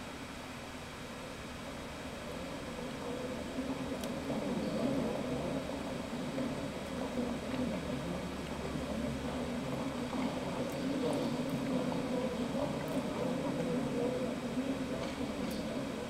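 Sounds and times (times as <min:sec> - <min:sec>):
low hum and hiss: 0:00.0 - 0:16.0
faint ticks: 0:02.2 - 0:16.0.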